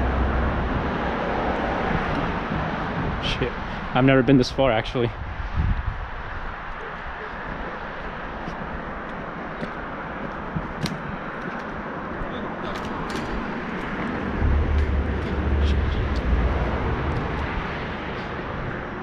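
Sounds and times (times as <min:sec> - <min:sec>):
deep outdoor rumble: 0:00.0 - 0:04.0, 0:05.2 - 0:19.0.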